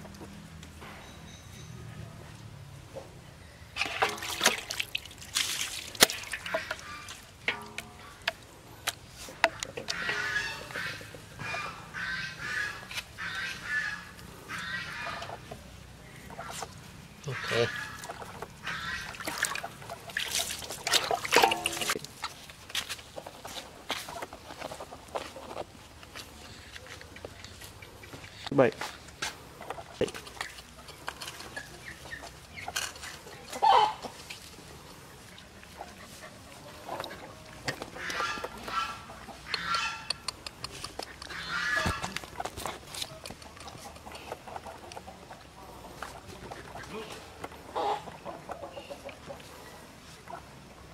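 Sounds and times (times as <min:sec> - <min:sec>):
chickens clucking: 0:06.1 - 0:22.4, 0:23.0 - 0:50.9.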